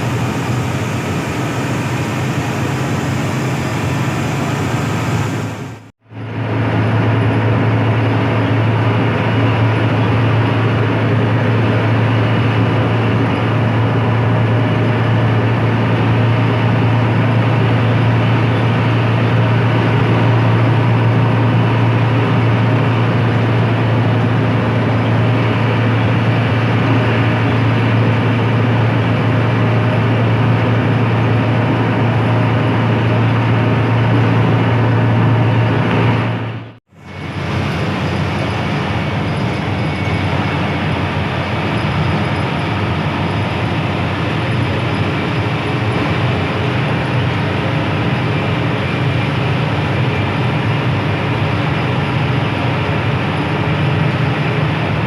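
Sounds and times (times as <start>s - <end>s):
diesel engine drone: 0.0s - 55.0s
road noise: 0.0s - 55.0s.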